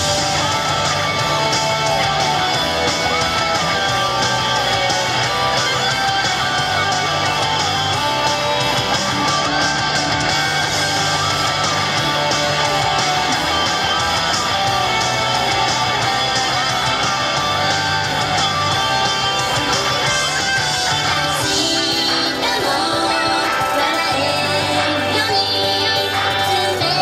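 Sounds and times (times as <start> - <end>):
upbeat pop music with guitar: 0.0 - 27.0.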